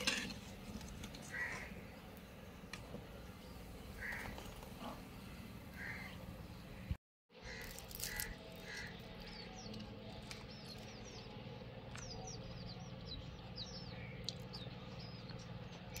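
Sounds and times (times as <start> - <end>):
small birds chirping: 0.8 - 16.0.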